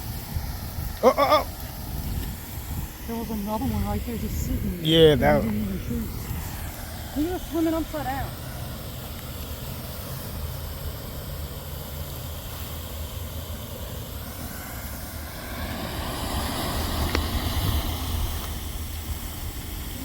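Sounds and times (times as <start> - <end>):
rushing noise: 0.0 - 20.0
vehicle rumble: 0.0 - 20.0.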